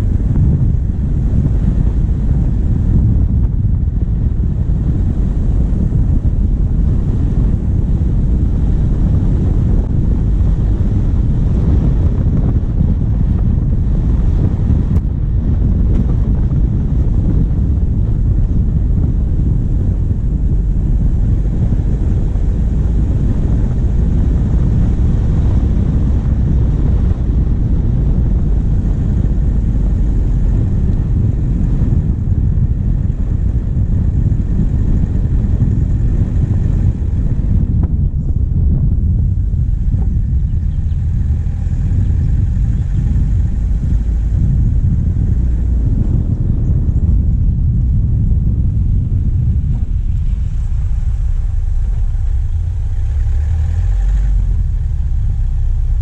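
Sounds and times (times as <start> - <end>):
diesel engine rumbling: 0.0 - 56.0
wind buffeting microphone: 0.0 - 56.0.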